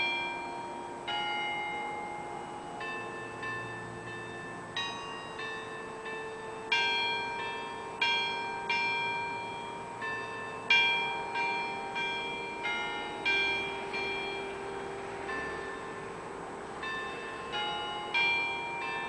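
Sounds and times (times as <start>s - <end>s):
church bells ringing a peal: 0.0s - 19.0s.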